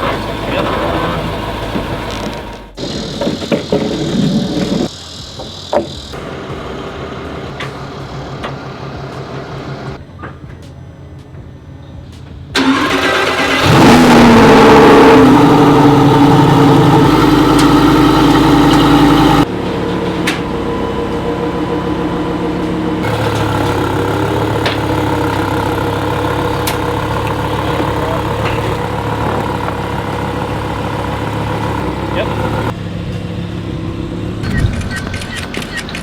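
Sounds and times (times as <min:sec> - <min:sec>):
car engine starting and idling: 0:00.0 - 0:10.0, 0:12.3 - 0:36.0.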